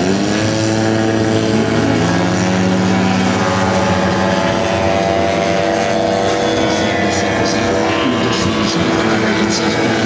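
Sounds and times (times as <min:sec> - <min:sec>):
model plane engine and propeller: 0:00.0 - 0:10.0.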